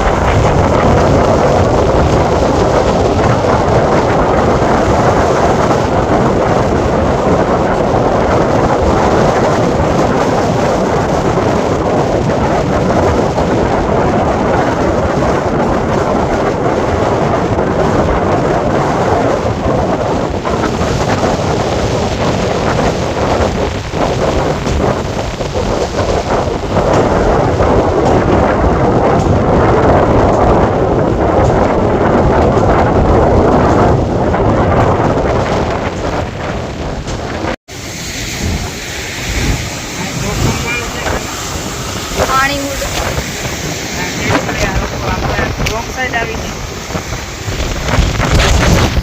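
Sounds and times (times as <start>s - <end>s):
rough sea: 0.0s - 49.0s
wind buffeting microphone: 0.0s - 49.0s.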